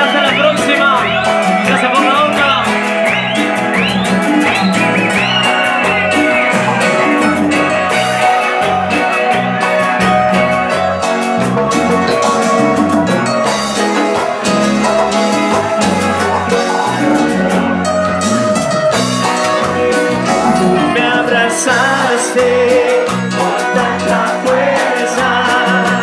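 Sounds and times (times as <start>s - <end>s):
live band playing latin dance music: 0.0s - 26.0s.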